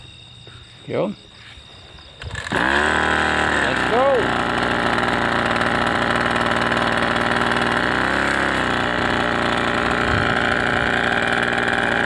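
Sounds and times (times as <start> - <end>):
small engine running: 2.2 - 12.0.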